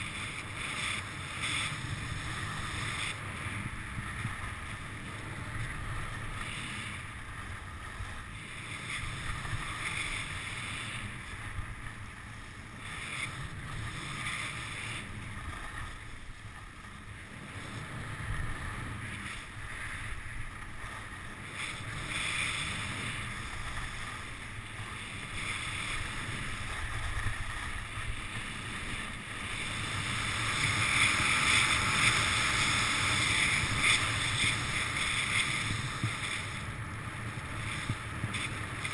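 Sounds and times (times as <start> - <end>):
skis scraping over snow: 0.0 - 38.9
wind on microphone: 0.0 - 38.9.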